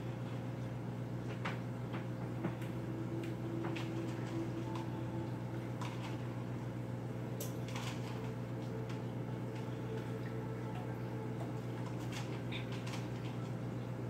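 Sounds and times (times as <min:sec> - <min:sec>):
aquarium equipment humming: 0:00.0 - 0:14.0.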